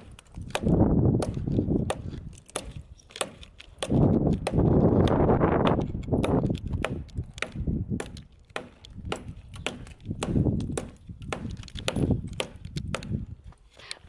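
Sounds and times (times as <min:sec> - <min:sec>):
machete chopping wood: 0:00.0 - 0:13.2.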